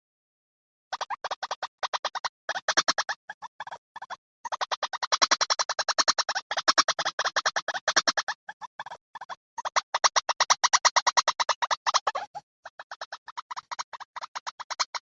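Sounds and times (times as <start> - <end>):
recorded bird call: 0.9 - 15.0.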